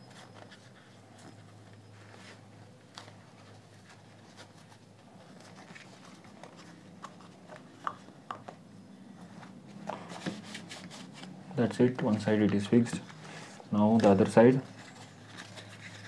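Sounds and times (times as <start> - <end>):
low steady hum: 0.0 - 16.0
soft rustling of handling: 0.0 - 16.0.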